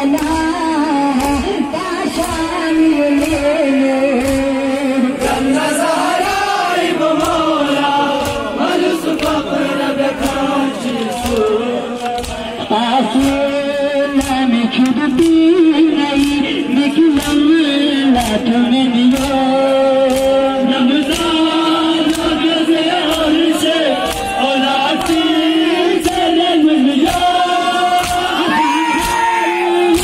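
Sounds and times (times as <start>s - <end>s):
crowd of men chanting in unison: 0.0s - 30.0s
chest-beating slaps: 0.1s - 17.4s, 18.1s - 25.4s, 27.0s - 29.3s.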